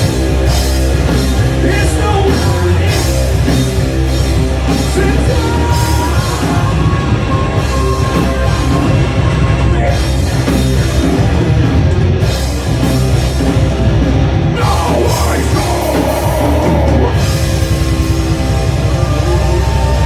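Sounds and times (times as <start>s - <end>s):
rock band playing loud: 0.0s - 20.0s.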